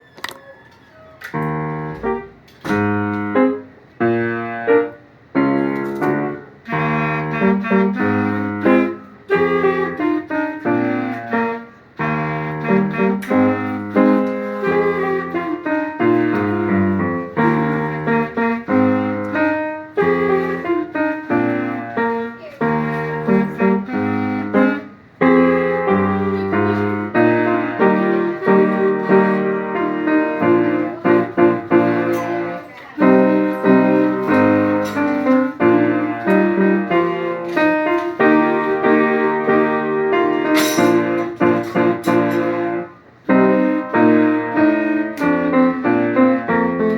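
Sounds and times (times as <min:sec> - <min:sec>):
solo piano: 0:00.0 - 0:46.9.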